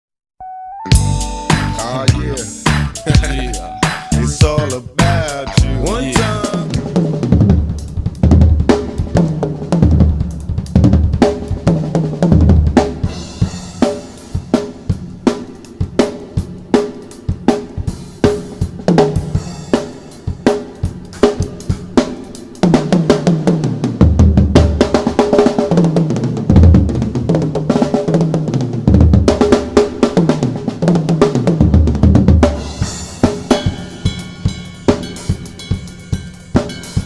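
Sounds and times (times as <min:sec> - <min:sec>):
drum kit groove: 0:00.9 - 0:37.0.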